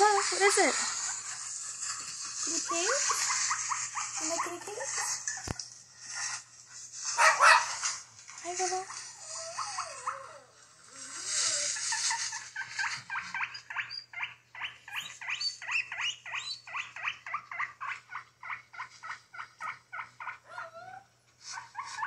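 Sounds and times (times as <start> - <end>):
guinea pigs squeaking: 0.0 - 6.4, 7.0 - 22.0.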